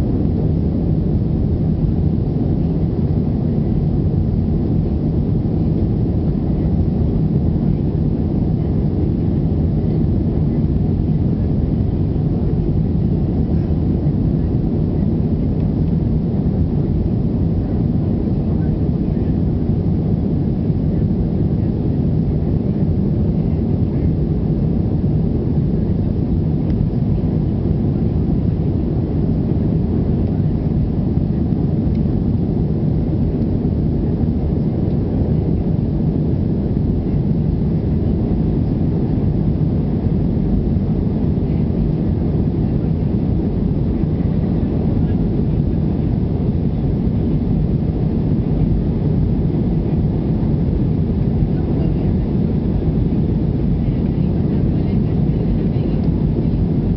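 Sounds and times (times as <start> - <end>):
jet engines rumbling: 0.0 - 56.9.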